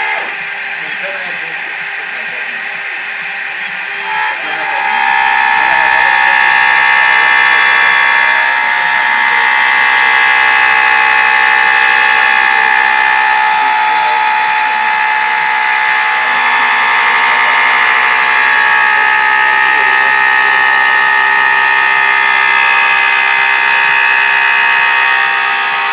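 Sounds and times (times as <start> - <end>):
machine motor whine: 0.0 - 25.9.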